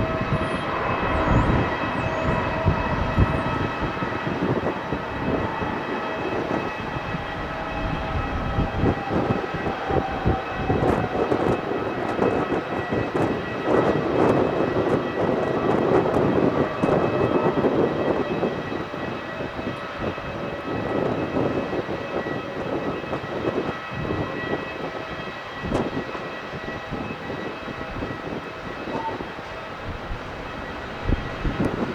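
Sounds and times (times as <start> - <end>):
jet engines rumbling: 0.0 - 31.9.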